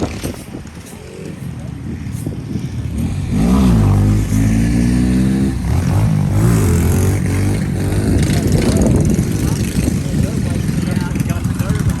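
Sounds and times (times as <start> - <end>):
mini bike engine revving: 0.0 - 12.0.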